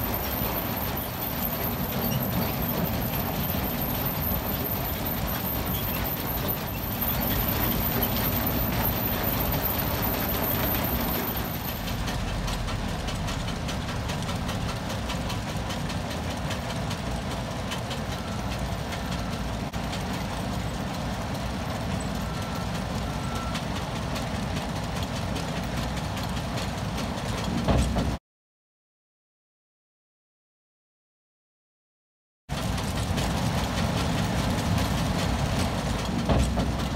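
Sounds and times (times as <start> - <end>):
heavy machinery running: 0.0 - 28.2, 32.5 - 36.9.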